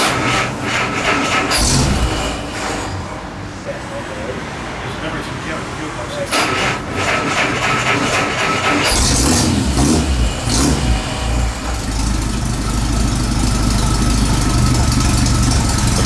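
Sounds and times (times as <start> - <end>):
car engine starting and idling: 0.0 - 3.6, 6.2 - 16.0.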